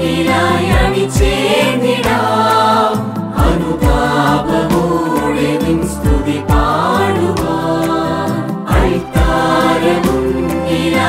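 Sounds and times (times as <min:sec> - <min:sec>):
choir singing a hymn: 0:00.0 - 0:11.0.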